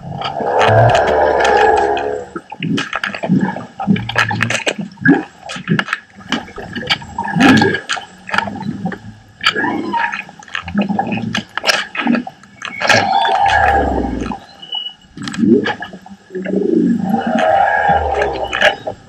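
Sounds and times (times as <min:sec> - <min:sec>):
gurgling water: 0:00.0 - 0:19.0
underwater clicks and knocks: 0:00.2 - 0:09.6, 0:10.4 - 0:14.4, 0:15.2 - 0:17.1.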